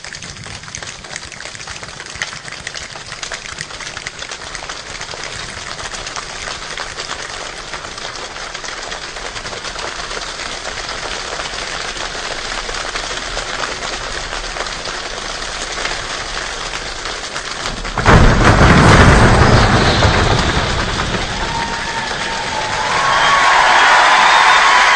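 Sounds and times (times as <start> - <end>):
rain pattering: 0.0 - 24.9
thunder clap and rumble: 3.2 - 24.9.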